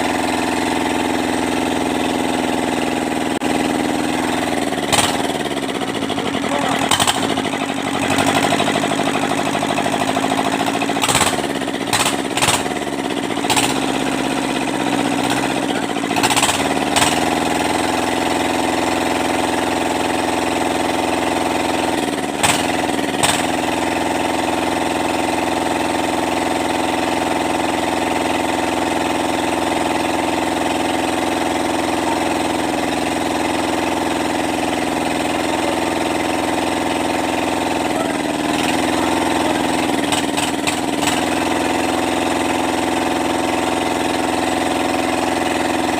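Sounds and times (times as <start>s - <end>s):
diesel engine clattering: 0.0s - 45.9s.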